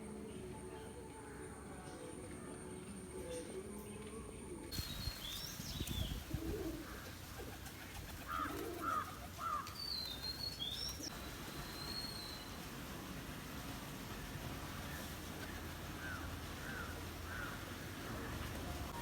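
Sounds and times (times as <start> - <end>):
pigeons cooing: 0.9 - 19.0.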